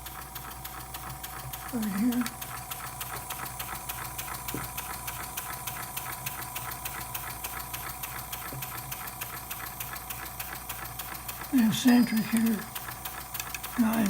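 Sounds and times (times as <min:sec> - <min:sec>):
air compressor humming: 0:00.0 - 0:14.0
steam engine ticking: 0:00.0 - 0:14.0.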